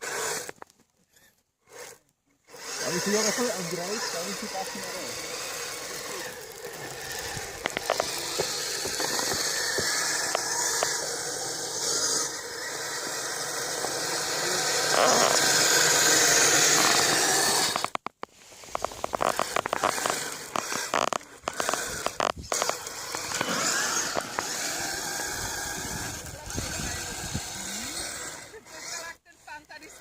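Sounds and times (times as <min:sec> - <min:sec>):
toy snowcat tracks rushing: 0:00.0 - 0:30.0.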